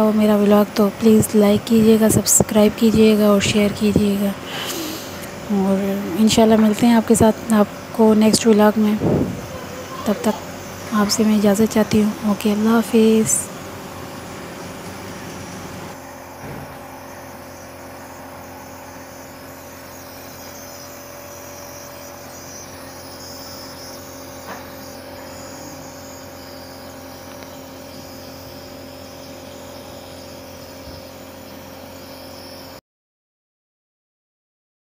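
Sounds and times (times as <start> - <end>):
nebulizer motor hum: 0.0 - 32.8.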